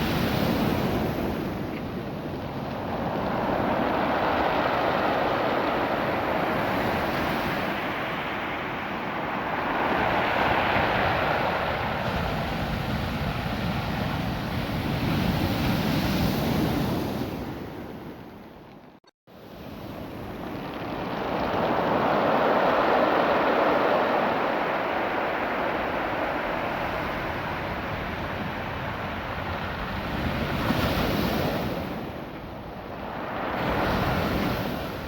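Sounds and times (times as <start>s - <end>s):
ocean surf washing: 0.0s - 18.6s, 19.4s - 35.0s.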